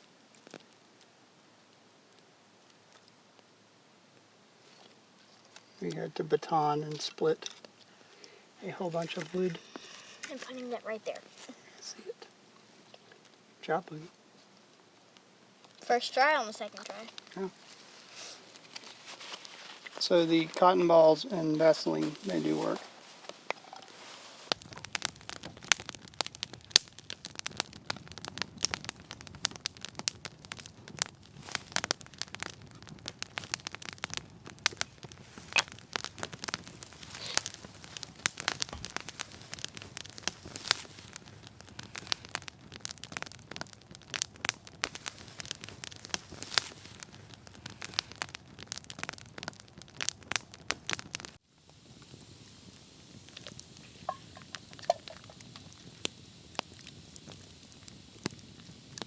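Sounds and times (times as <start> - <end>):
campfire crackling: 0.0 - 59.0
faint hiss: 0.0 - 59.0.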